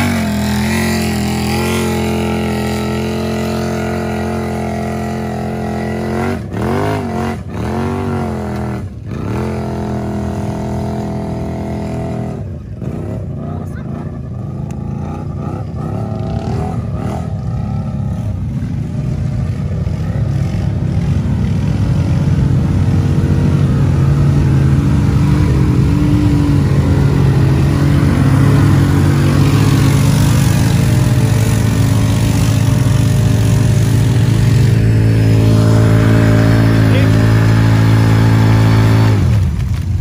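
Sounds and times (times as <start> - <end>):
vehicle engine running hard: 0.0 - 40.0.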